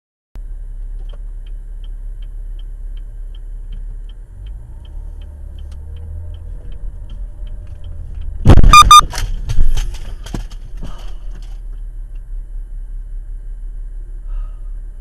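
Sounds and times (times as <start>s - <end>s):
turn signal ticking: 0.4s - 13.1s
low engine hum: 0.4s - 15.0s.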